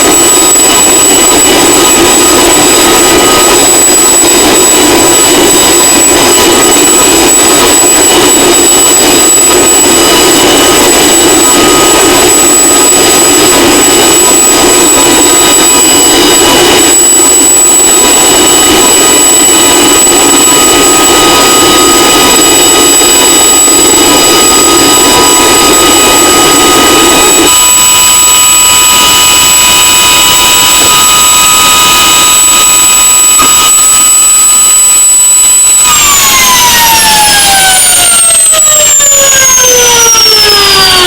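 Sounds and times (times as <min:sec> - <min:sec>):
helicopter turbine engines whining: 0:00.0 - 0:33.9, 0:34.5 - 0:41.0.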